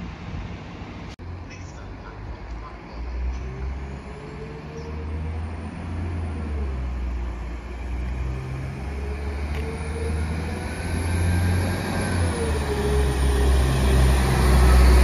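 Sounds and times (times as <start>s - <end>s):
train engine rumble: 0.0s - 15.0s.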